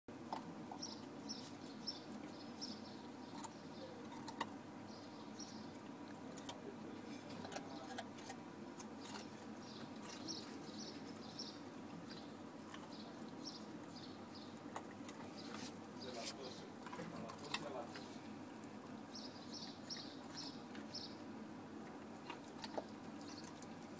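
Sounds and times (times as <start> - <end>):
animal crunching a carrot: 0.2 - 21.2, 21.8 - 23.9
small birds chirping: 0.3 - 21.3, 22.0 - 23.9.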